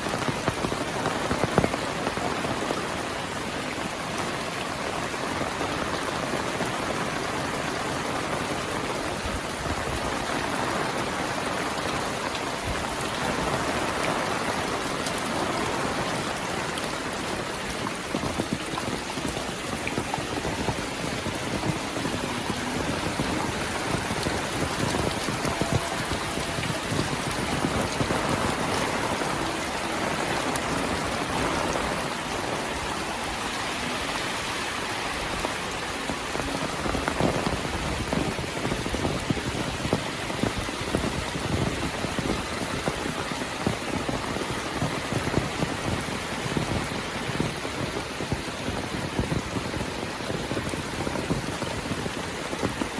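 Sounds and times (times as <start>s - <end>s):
heavy rain falling: 0.0s - 52.9s
raindrops pattering on surfaces: 0.0s - 52.9s.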